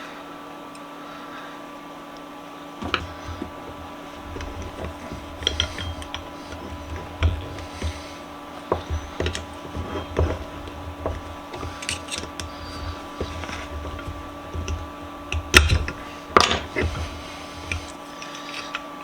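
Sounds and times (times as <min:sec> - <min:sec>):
faint steady hum: 0:00.0 - 0:19.0
metallic clinks and knocks: 0:02.8 - 0:18.8.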